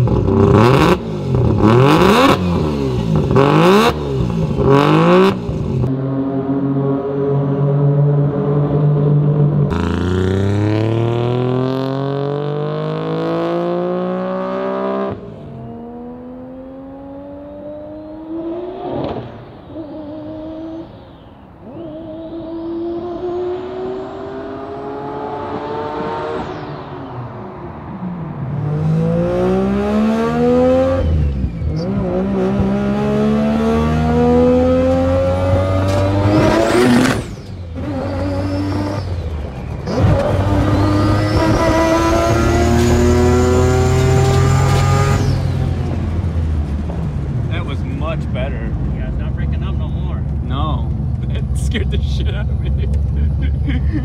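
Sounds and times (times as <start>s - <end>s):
rotary engine accelerating: 0.0s - 54.0s.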